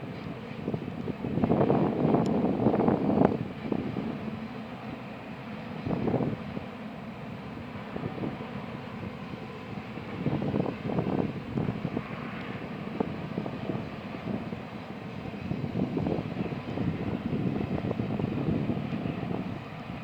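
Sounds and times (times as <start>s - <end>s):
freight train rumbling: 0.0s - 20.0s
wind buffeting microphone: 0.0s - 20.0s.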